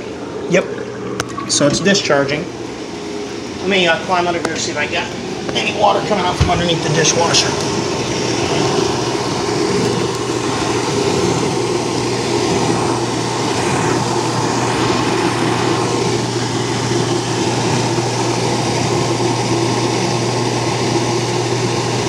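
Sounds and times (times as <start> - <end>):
dishwasher drain pump humming: 0.0 - 22.0.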